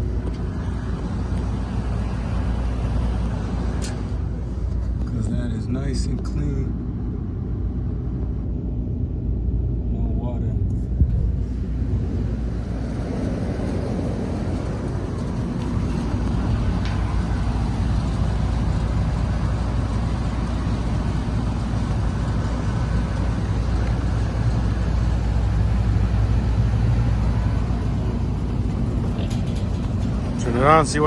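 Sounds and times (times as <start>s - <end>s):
air conditioning hum: 0.0s - 31.0s.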